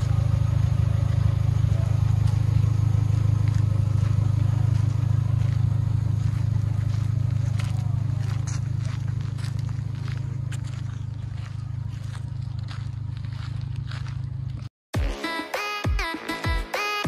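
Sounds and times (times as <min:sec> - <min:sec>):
suv engine idling: 0:00.0 - 0:14.7.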